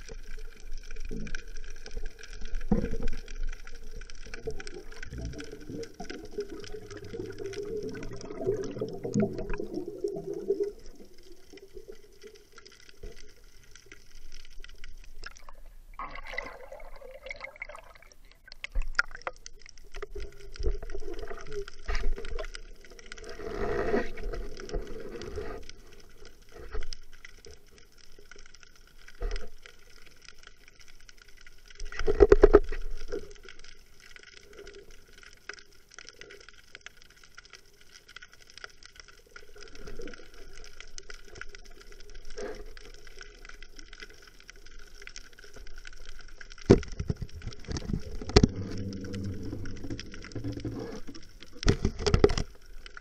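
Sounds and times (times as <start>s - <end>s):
faint underwater hiss: 0.0s - 53.0s
underwater bubbling bursts: 0.0s - 53.0s.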